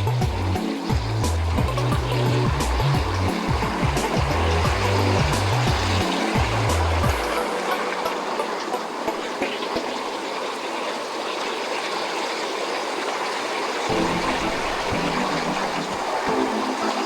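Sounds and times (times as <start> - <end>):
water rushing down waterfall: 0.0 - 17.0.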